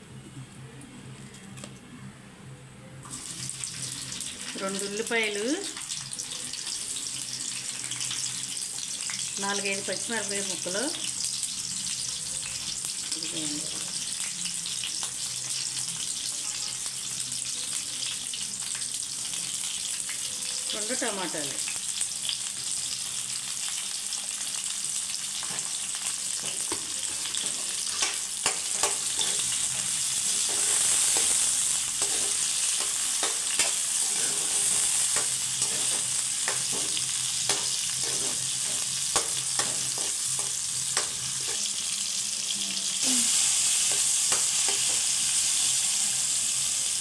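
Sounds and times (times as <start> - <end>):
vegetables sizzling in hot oil: 3.1 - 47.0.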